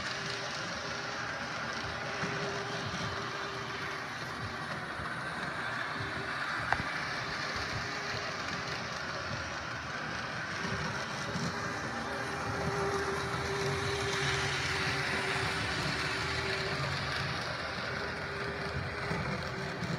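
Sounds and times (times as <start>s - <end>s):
model train motor whirring: 0.0s - 19.9s.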